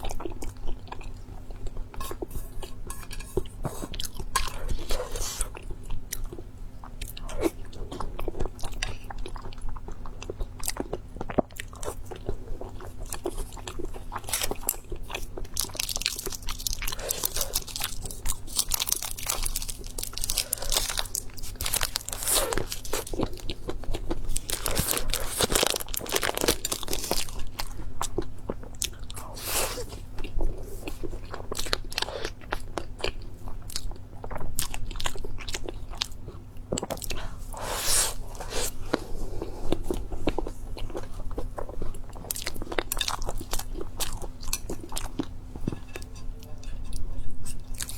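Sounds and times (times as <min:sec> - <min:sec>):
person chewing crunchy food: 0:00.0 - 0:46.2, 0:46.8 - 0:47.9.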